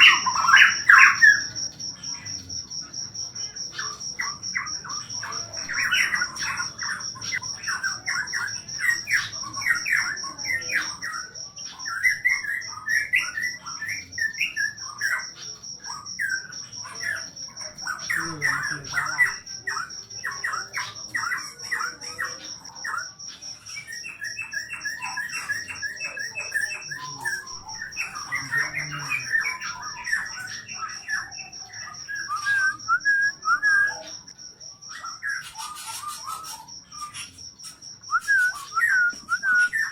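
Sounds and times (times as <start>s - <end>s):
cricket trilling: 0.0s - 39.9s
songbird chattering song: 0.0s - 39.9s.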